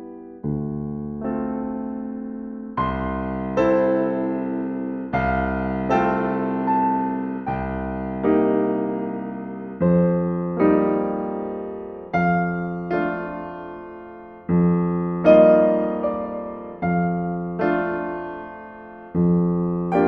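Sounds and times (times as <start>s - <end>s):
slow piano chords: 0.0s - 20.0s.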